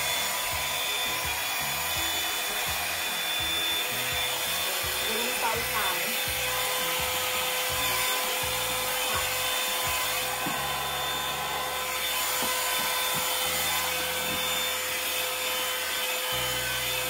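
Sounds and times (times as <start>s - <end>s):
hot air brush blowing: 0.0s - 17.0s.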